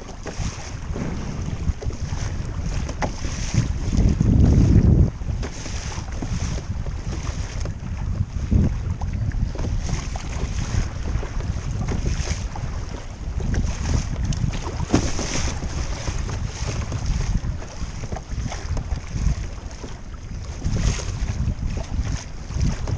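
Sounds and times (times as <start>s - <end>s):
water splashing at kayak bow: 0.0s - 22.9s
wind buffeting microphone: 0.0s - 22.9s.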